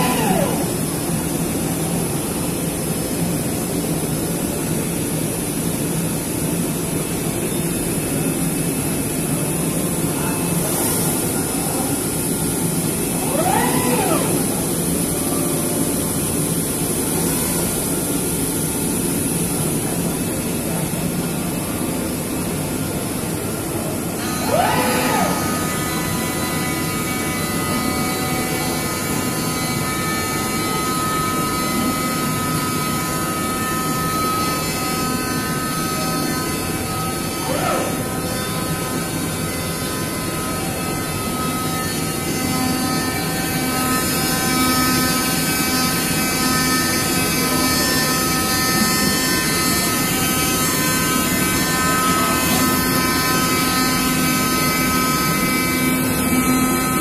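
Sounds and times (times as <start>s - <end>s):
cutting machine whirring and whining: 0.0s - 57.0s.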